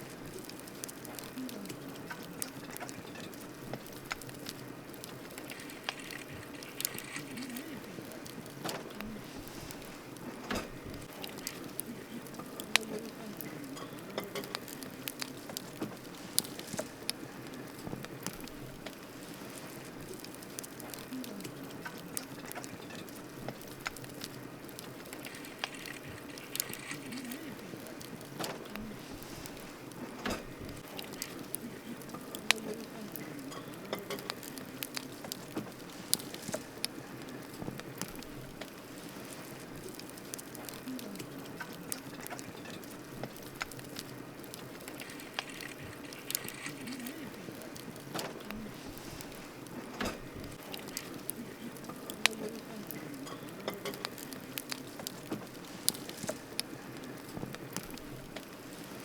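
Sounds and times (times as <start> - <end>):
campfire crackling and popping: 0.0 - 59.0
low rush of burning fire: 0.0 - 59.0.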